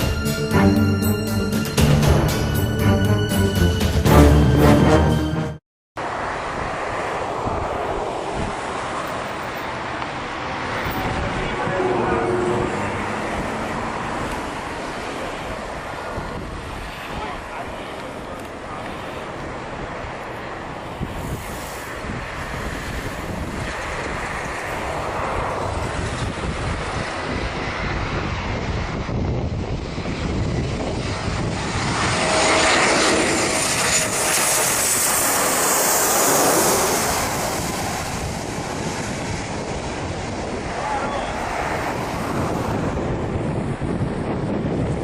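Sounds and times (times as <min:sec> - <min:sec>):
airplane engine: 0:00.0 - 0:45.0
wind on microphone: 0:06.4 - 0:45.0.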